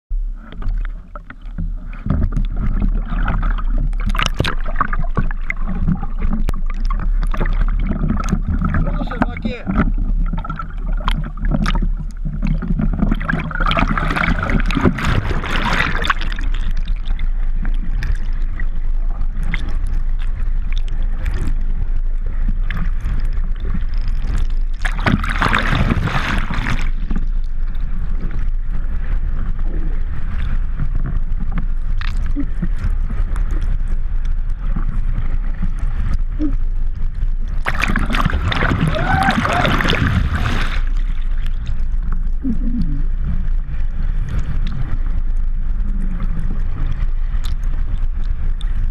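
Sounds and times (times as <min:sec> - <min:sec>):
muffled underwater rumble: 0:00.1 - 0:48.9
water splashing and gurgling: 0:00.1 - 0:48.9.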